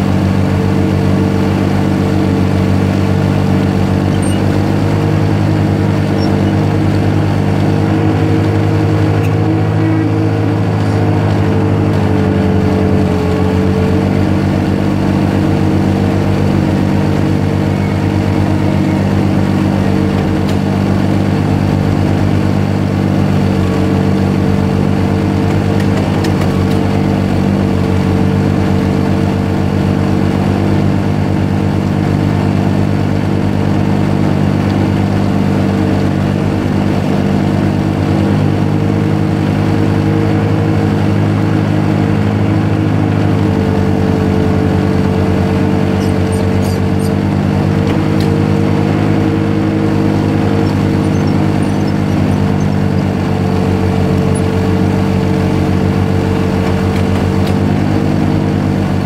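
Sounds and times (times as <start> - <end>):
ice resurfacer engine droning: 0.0 - 59.0.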